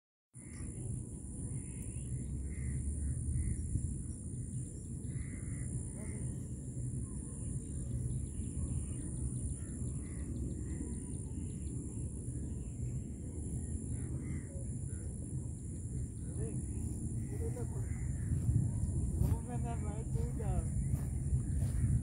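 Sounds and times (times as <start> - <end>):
birds calling: 0.4 - 22.0
high-pitched whine: 0.4 - 22.0
steady low rumble: 0.4 - 22.0.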